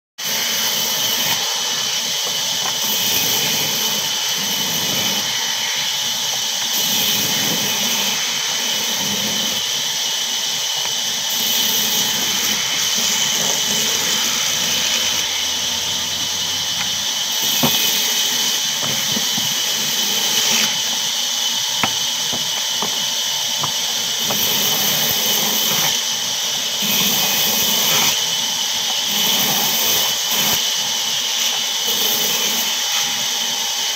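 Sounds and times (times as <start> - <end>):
band saw cutting wood: 0.2 - 33.9.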